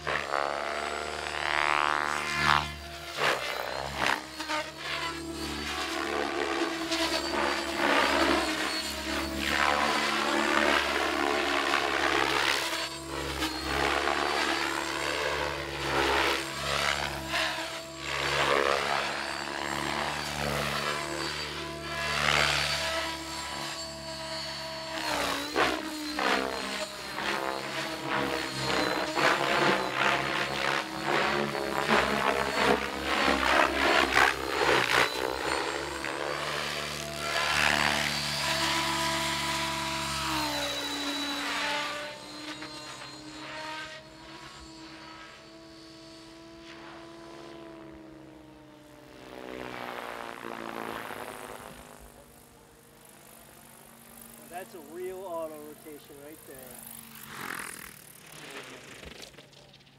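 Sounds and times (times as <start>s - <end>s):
rc helicopter rotor and motor: 0.0s - 59.9s.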